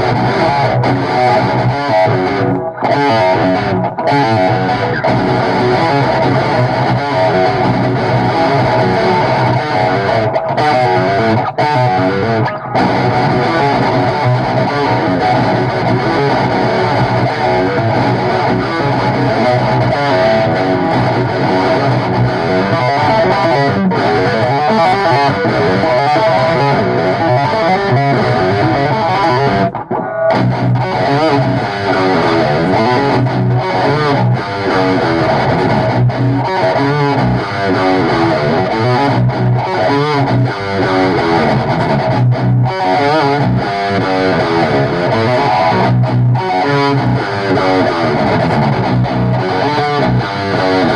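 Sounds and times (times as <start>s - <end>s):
distorted electric guitar band: 0.0s - 50.9s.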